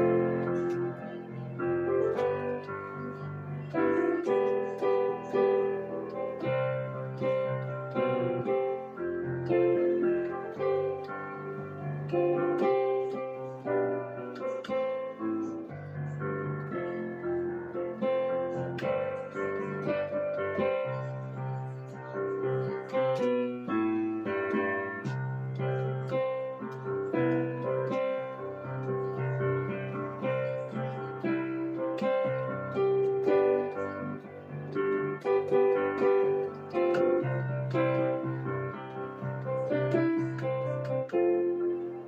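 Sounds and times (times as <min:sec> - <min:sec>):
piano playing: 0:00.0 - 0:42.0.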